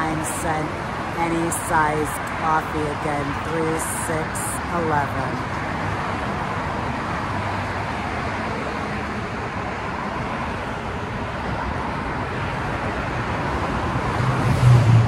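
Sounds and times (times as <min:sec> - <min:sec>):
freeway traffic: 0:00.0 - 0:15.0.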